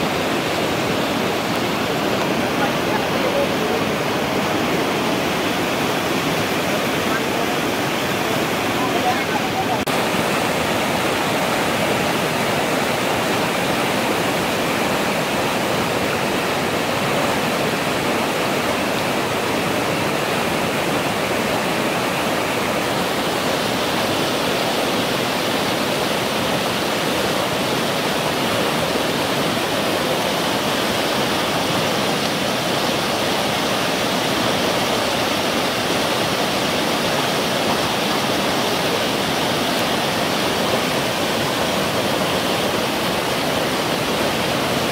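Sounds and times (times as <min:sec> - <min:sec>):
floodwater rushing over rapids: 0:00.0 - 0:44.9.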